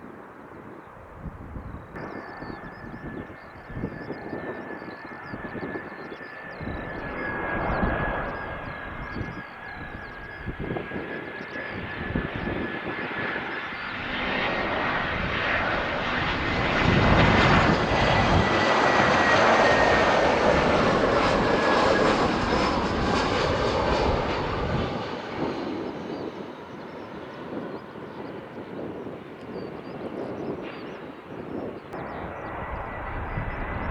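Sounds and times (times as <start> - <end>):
jet airliner passing by: 0.0 - 33.9.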